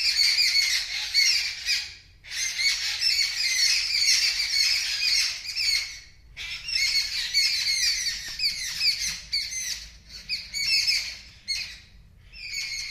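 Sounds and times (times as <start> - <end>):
small birds shrill alarm calls: 0.0 - 12.9.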